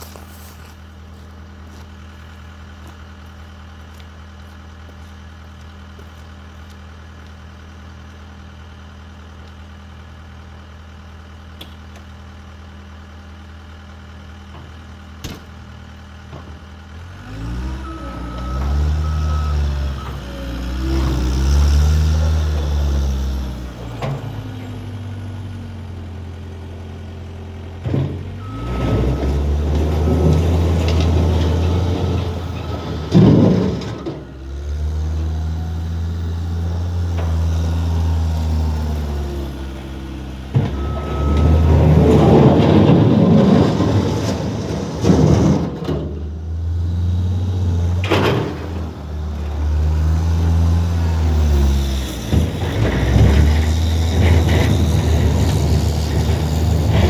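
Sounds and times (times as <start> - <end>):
skid steer engine running: 0.0 - 57.0.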